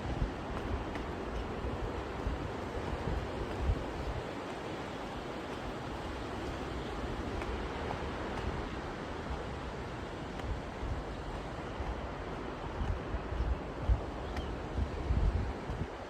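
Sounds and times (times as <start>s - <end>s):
sea waves washing onto beach: 0.0s - 16.0s
wind buffeting microphone: 0.0s - 16.0s.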